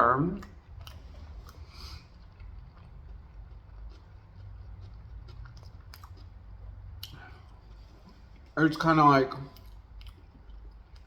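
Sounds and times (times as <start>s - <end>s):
person chewing fried chicken: 0.3s - 11.0s.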